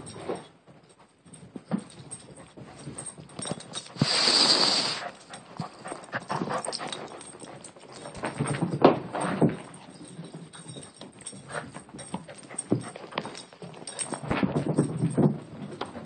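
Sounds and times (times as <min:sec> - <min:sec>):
dog paws scuffing on carpet: 0:00.1 - 0:15.2.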